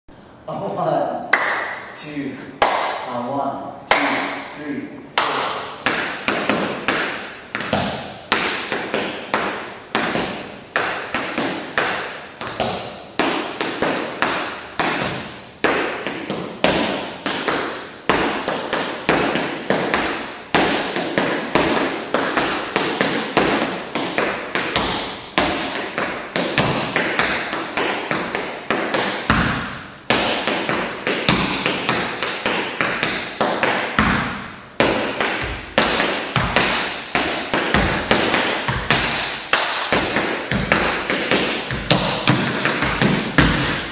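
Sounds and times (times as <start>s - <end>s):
tap shoes on floor: 5.2s - 43.9s.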